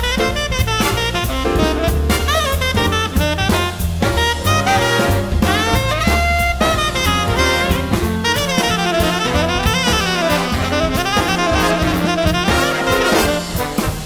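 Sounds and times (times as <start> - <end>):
drum kit: 0.0 - 14.0
saxophone lead: 0.0 - 14.0.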